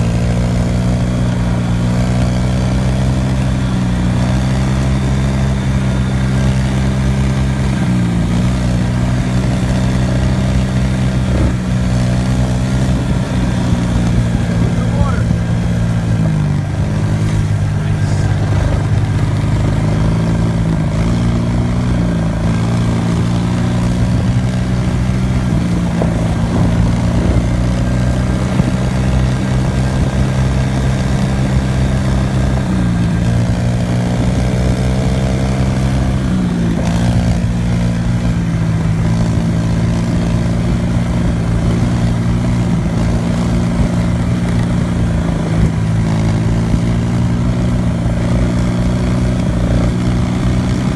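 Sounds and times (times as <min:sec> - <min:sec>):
off-road motorbike engines: 0:00.0 - 0:50.9.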